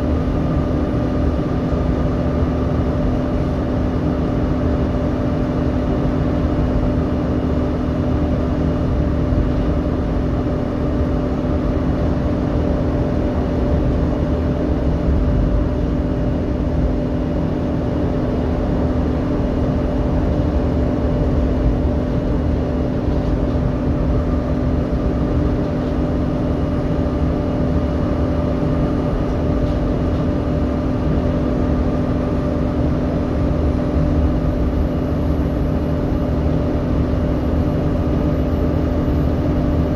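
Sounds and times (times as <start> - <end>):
bus diesel engine drone: 0.0 - 39.9
steady whine: 0.0 - 39.9.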